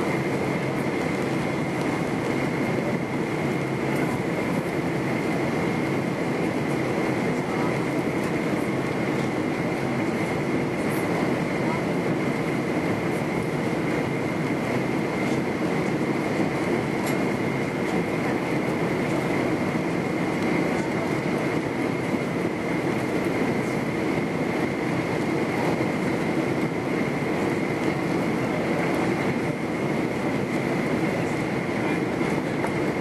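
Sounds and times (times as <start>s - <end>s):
aircraft cabin engine rumble: 0.0s - 33.0s
thin steady whine: 0.0s - 33.0s.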